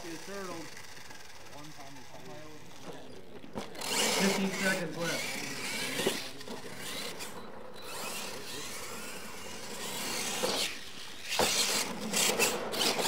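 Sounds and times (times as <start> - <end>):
toy truck motor whining: 0.0 - 13.0.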